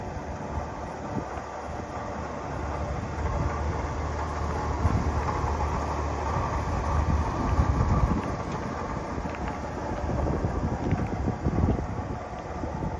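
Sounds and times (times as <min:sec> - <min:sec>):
pickup truck engine rumbling: 0:00.0 - 0:12.9.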